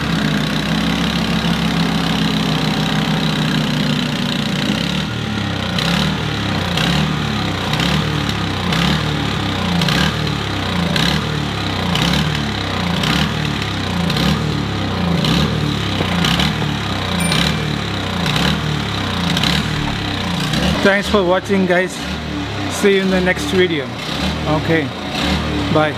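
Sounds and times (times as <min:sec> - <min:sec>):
snow blower engine running: 0:00.0 - 0:25.9.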